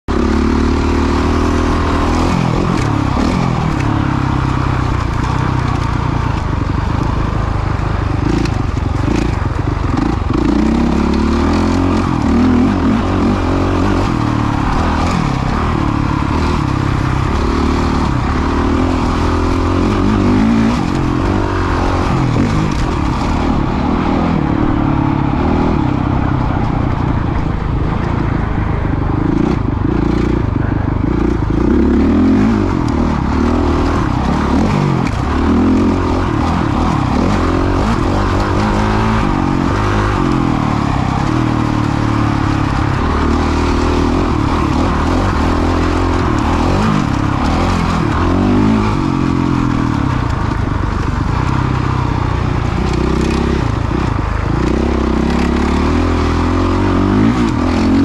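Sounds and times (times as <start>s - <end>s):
motocross bike engine revving: 0.1s - 58.0s.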